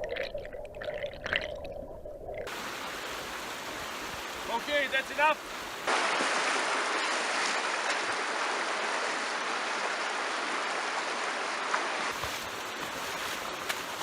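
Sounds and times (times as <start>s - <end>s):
creek water rushing: 2.5s - 14.0s.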